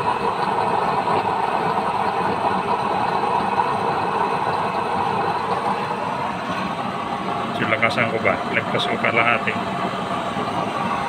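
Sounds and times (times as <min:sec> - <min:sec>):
electric blower fan running: 0:00.0 - 0:11.0
oil flame burning: 0:00.0 - 0:11.0.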